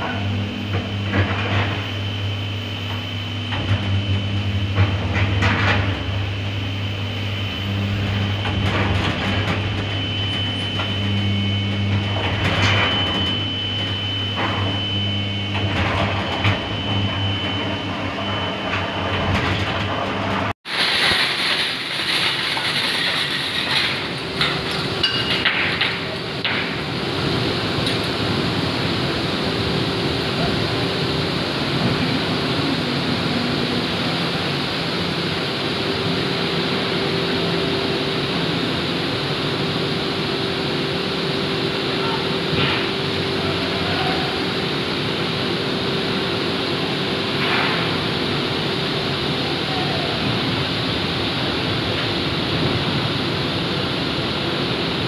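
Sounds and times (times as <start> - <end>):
furnace deep hum: 0.0 - 55.0.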